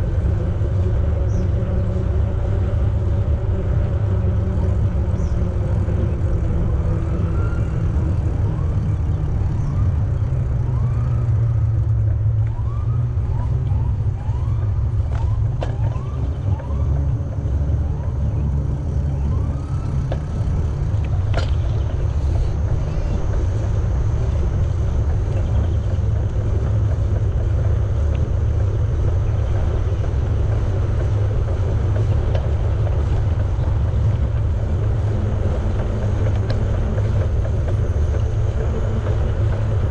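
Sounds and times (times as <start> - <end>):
wind and rolling noise: 0.0 - 39.9.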